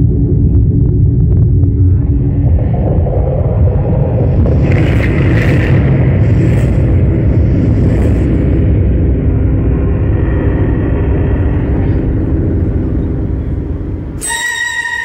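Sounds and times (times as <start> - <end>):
deep rumble over loudspeakers: 0.0 - 15.0.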